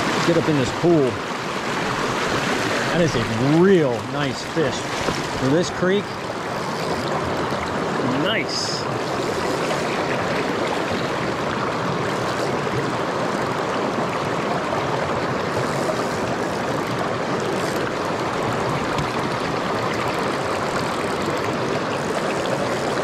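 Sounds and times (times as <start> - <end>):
creek flowing over rocks: 0.0 - 23.0.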